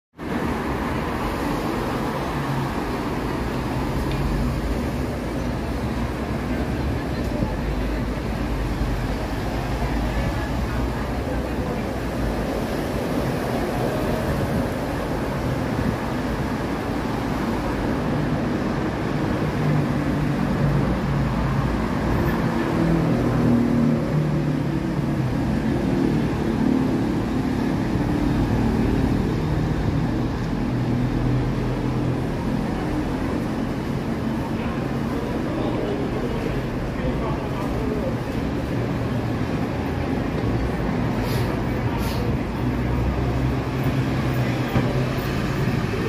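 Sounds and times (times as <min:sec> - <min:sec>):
city road traffic hum: 0:00.1 - 0:46.0.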